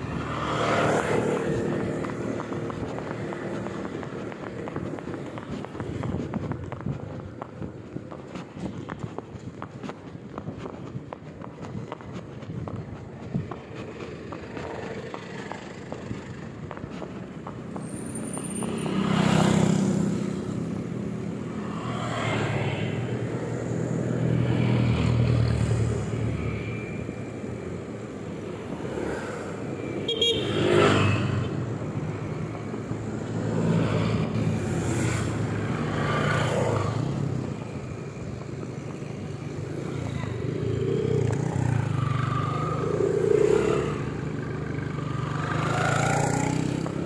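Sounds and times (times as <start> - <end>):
cars and motorcycles passing: 0.0 - 47.0.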